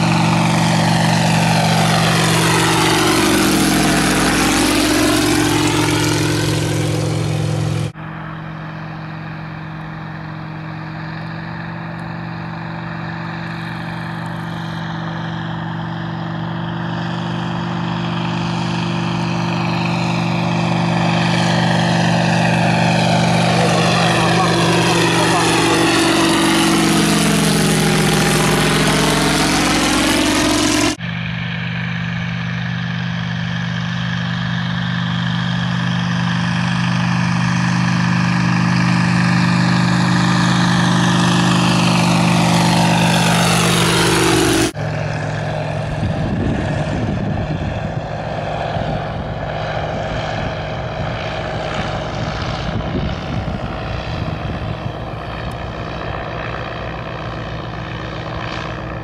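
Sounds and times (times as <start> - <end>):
biplane engine and propeller flying past: 0.0 - 59.0.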